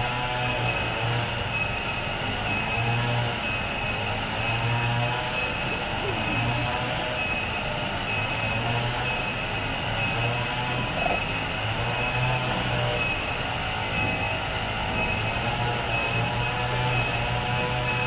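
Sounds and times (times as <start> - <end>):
cicadas buzzing: 0.1 - 18.0.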